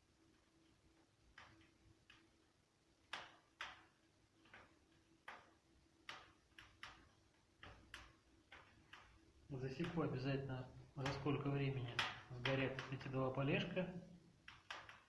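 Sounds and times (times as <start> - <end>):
logs crackling in a fireplace: 0.0 - 15.0.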